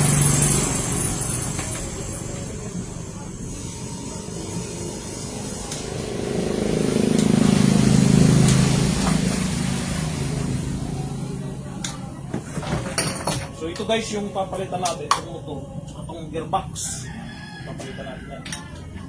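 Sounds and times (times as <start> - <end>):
passing vehicle engine rumble: 0.0 - 19.0.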